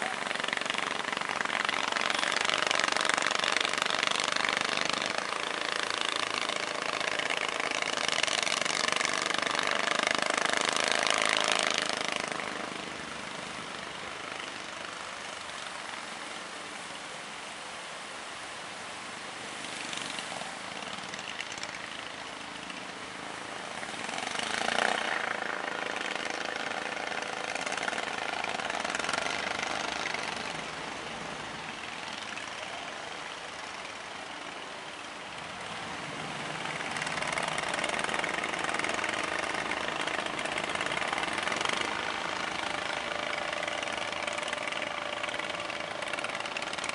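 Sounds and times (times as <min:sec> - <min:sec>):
boat engines running: 0:00.0 - 0:46.9
waves washing around boats: 0:00.0 - 0:46.9.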